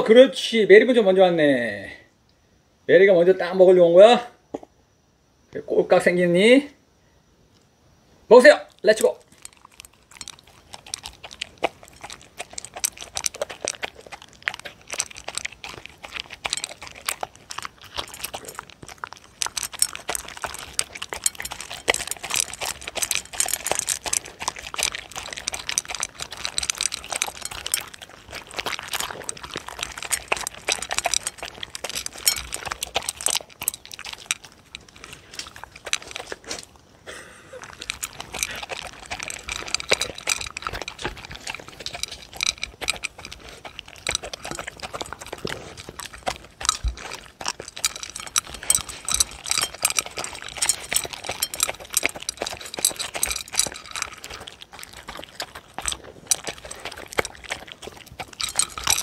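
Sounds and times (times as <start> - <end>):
dogs crunching and chewing kibble: 8.3 - 59.0.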